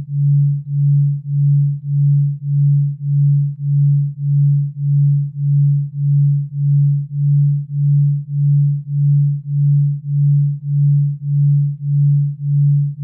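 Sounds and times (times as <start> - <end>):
low pulsing electronic tone: 0.0 - 13.0.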